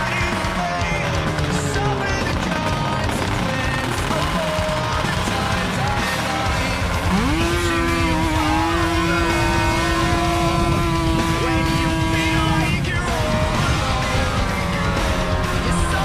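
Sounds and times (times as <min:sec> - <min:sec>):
snowmobile engine at full throttle: 0:00.0 - 0:16.0.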